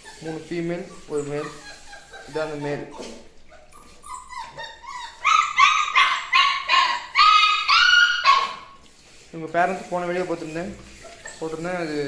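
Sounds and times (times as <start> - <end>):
puppy whimpering and yelping: 0.0 - 8.8, 10.5 - 12.0.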